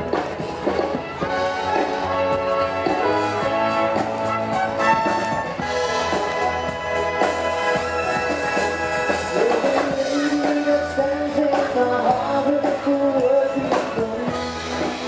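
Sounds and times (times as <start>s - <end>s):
band playing live music: 0.0s - 15.0s.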